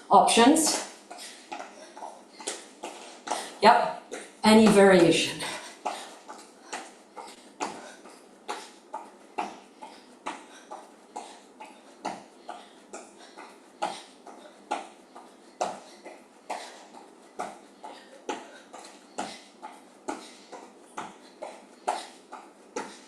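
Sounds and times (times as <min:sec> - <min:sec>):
sharp breaths of effort: 0:00.8 - 0:04.4, 0:05.4 - 0:23.0.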